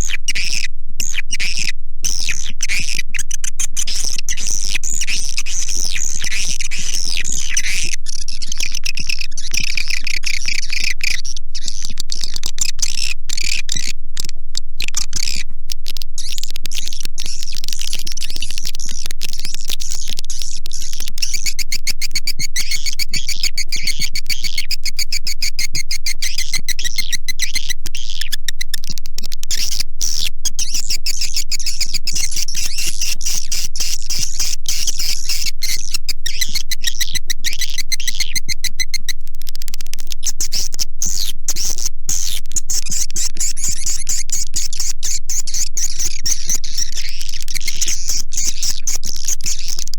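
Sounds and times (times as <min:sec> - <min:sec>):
swiftlet chirps and twittering: 0:00.0 - 0:39.2, 0:39.8 - 0:49.9.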